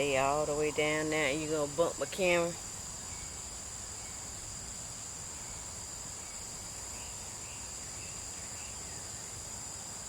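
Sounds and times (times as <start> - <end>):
insects shrill hum: 0.0 - 10.0.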